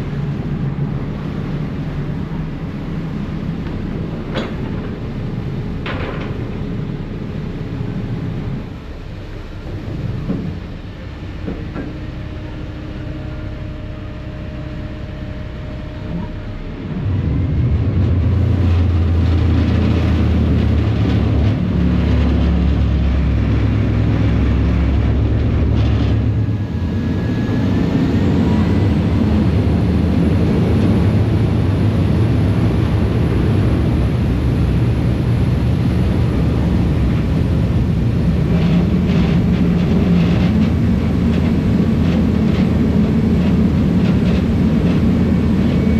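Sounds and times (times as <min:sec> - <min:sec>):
diesel engines rumbling: 0:00.0 - 0:45.9.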